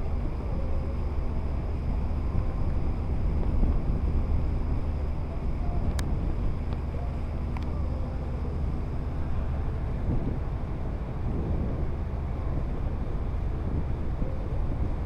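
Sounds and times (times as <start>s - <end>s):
boat engine rumbling: 0.0s - 15.0s
wind buffeting microphone: 0.0s - 15.0s.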